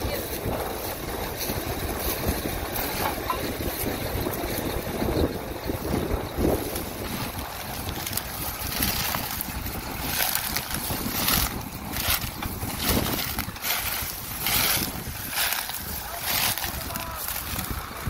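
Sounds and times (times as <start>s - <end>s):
tractor engine under load: 0.0s - 18.0s
wind noise on microphone: 0.0s - 18.0s.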